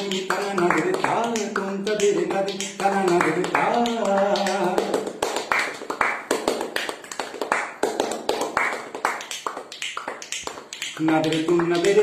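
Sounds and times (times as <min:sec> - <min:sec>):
hands clapping and tapping rhythm: 0:00.0 - 0:12.0.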